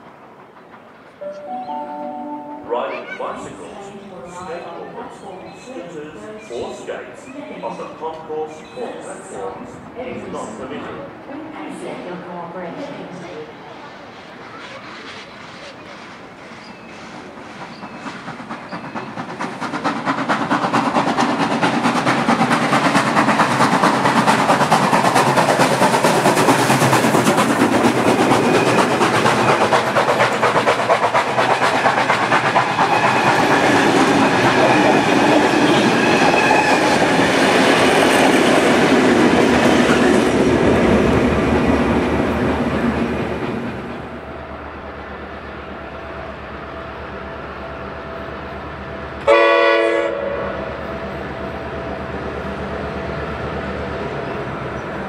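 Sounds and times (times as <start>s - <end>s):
steam train passing: 0.0s - 55.0s.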